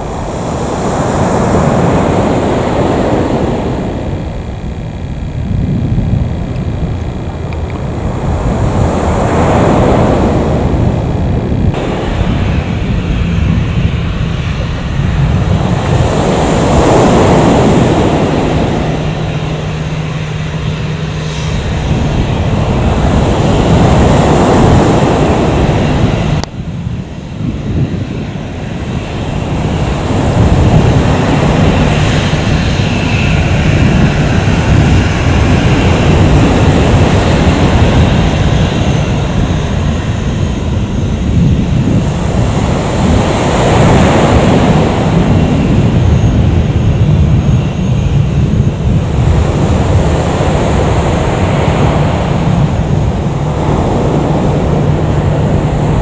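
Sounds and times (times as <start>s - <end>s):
jet engine roar: 0.0s - 56.0s
jet engine whooshes: 0.0s - 56.0s.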